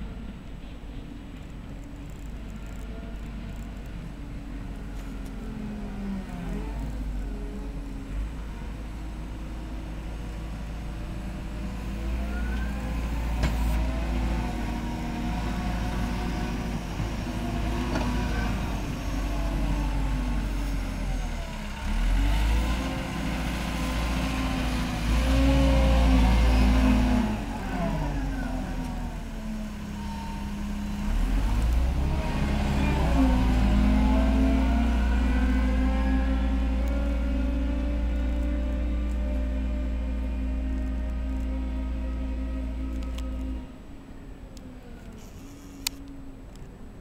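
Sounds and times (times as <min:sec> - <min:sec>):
diesel engine working: 0:02.3 - 0:46.6.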